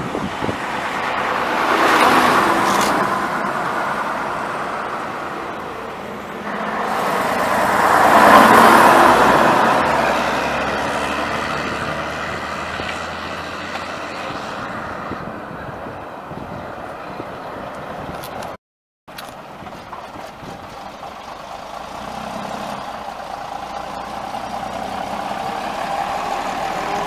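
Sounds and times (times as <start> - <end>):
buses driving past: 0.0 - 18.6, 19.3 - 27.0.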